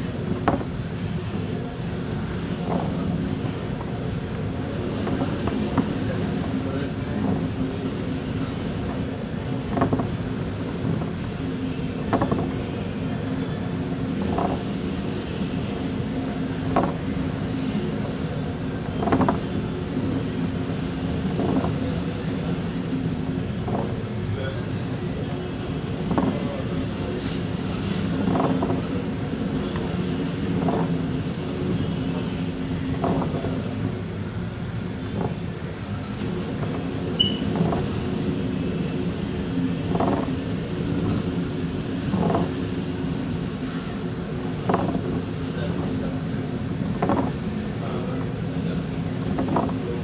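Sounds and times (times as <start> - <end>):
boat engine running: 0.0 - 50.0.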